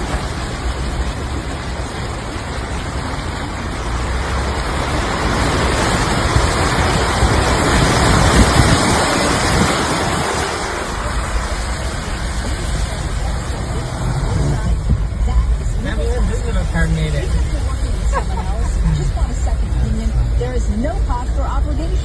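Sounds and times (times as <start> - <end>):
tyre hiss on wet street: 0.0 - 22.0.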